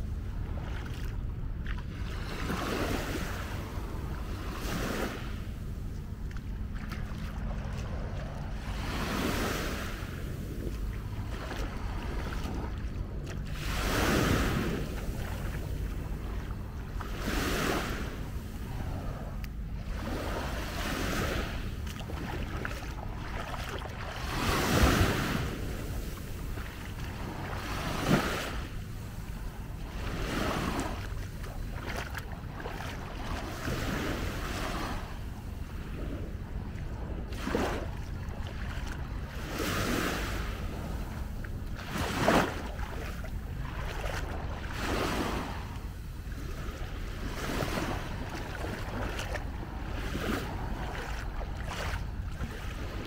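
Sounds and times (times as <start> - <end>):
small sea waves breaking on sand: 0.0 - 53.0
wind rumble on microphone: 0.0 - 53.0.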